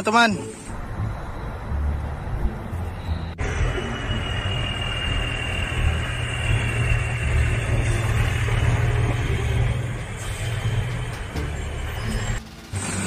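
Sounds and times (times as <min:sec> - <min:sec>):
faint high whine: 0:00.0 - 0:13.0
heavy truck engine driving past: 0:00.7 - 0:13.0.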